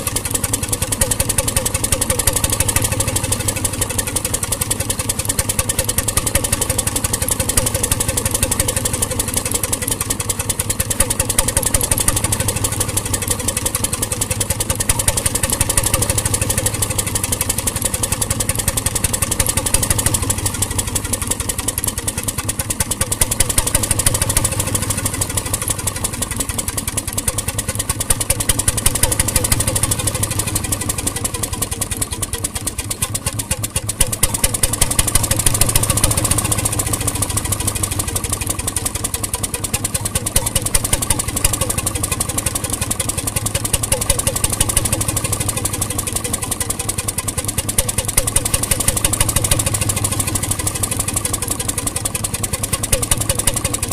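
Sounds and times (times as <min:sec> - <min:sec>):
marine engine running: 0:00.0 - 0:53.9.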